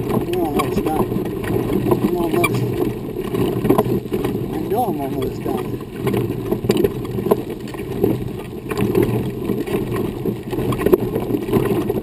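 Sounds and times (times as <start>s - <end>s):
wheelchair wheels rolling on gravel: 0.0s - 12.0s.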